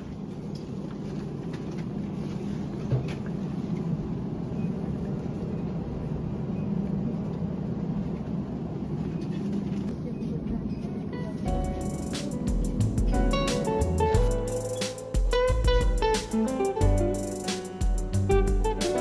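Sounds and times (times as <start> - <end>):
vehicle engine rumbling: 0.2 - 16.2.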